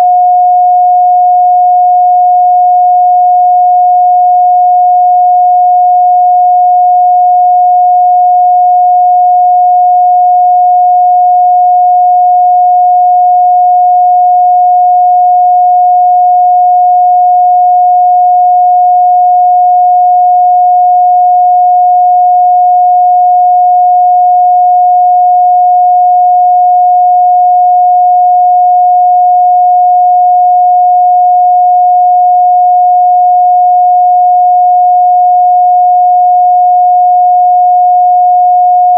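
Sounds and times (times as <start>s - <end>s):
sine-wave test tone: 0.0s - 38.9s.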